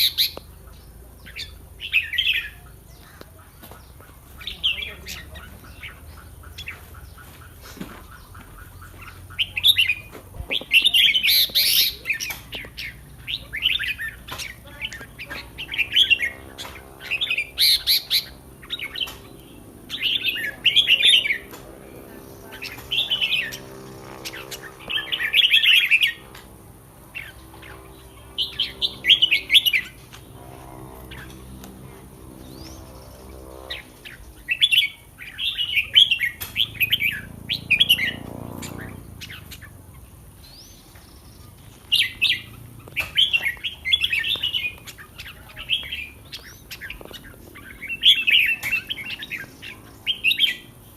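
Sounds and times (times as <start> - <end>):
bird singing warbled phrases: 0.0 - 50.9.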